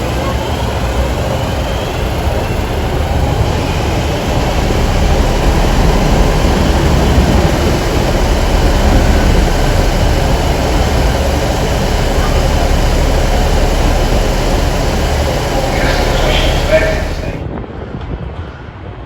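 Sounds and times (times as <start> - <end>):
train rumbling with whine: 0.0 - 17.5.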